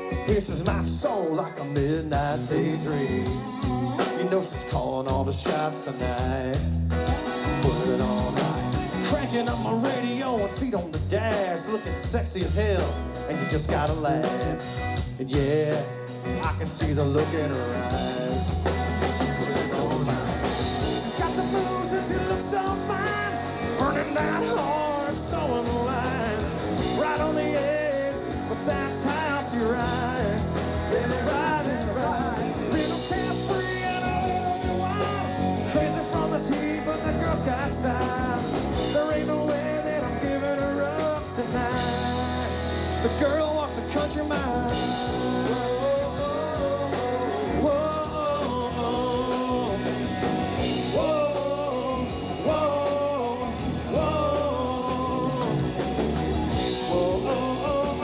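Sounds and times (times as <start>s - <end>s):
person singing: 0.0s - 58.0s
rock band with electric guitars: 0.0s - 58.0s.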